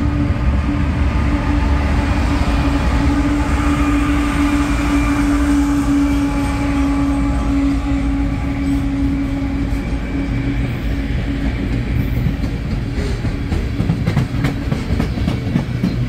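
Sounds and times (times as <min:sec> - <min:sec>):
locomotive engine drone: 0:00.0 - 0:16.0
steel wheels rolling on rails: 0:00.0 - 0:16.0.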